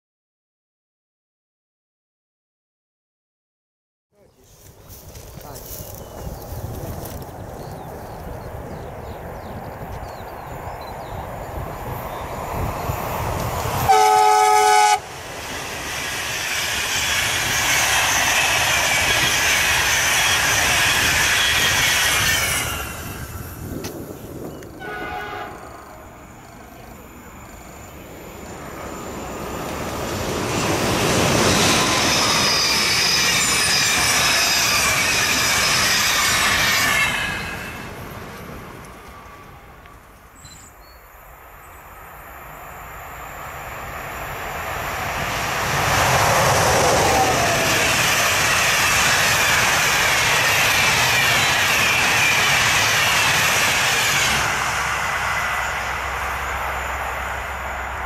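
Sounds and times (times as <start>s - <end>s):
train wheels rushing on rail: 4.4s - 58.0s.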